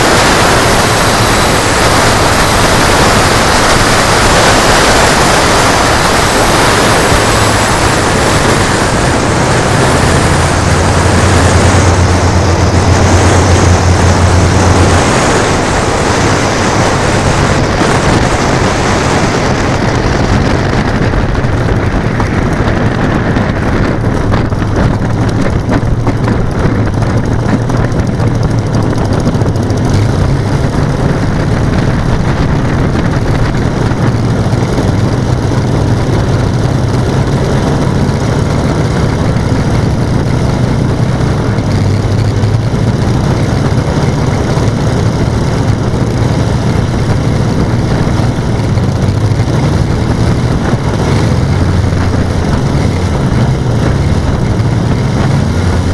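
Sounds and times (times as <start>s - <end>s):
model aircraft engines humming: 0.0s - 55.9s.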